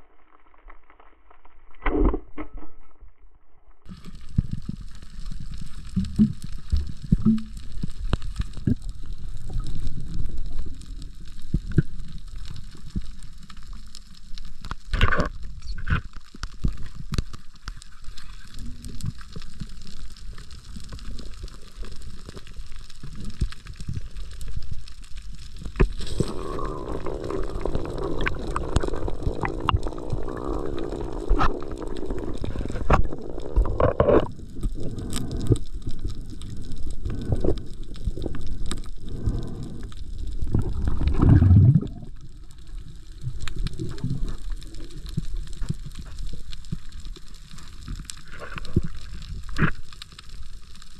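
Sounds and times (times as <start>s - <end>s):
underwater rumble of moving water: 3.4s - 50.9s
bubbling gurgling hiss: 3.9s - 50.9s.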